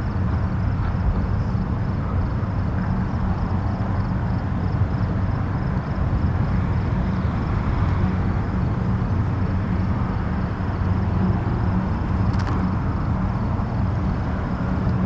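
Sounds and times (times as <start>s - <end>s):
distant highway traffic: 0.0s - 15.0s.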